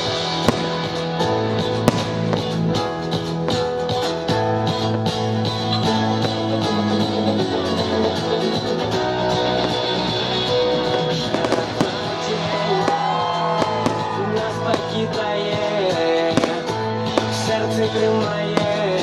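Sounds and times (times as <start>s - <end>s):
fireworks bangs and crackles: 0.0s - 19.0s
guitar music: 0.0s - 19.0s.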